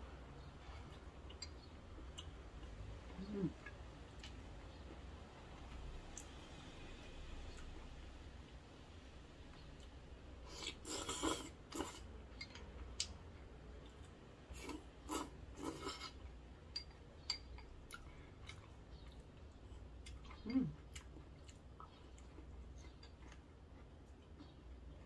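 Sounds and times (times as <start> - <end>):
soft chewing: 0.3 - 8.8, 9.4 - 25.0.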